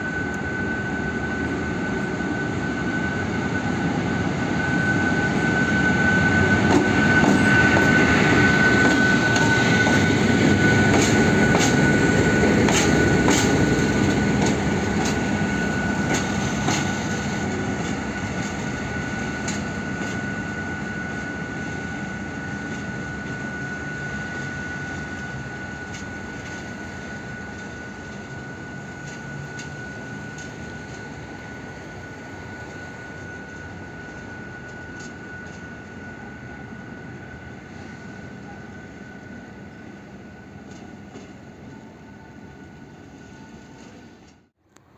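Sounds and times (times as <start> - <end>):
diesel locomotive engine rumble: 0.0 - 44.9
steady high whine: 0.0 - 44.9.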